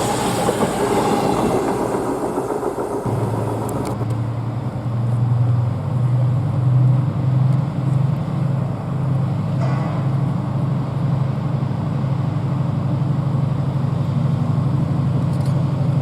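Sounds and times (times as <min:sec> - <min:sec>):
large diesel engine running: 0:00.0 - 0:16.0.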